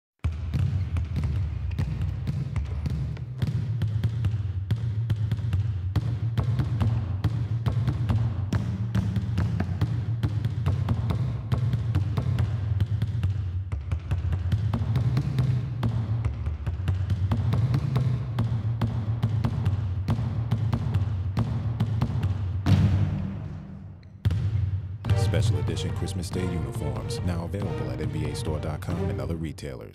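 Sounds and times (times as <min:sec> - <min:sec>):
basketballs bouncing on wooden floor: 0:00.2 - 0:25.4.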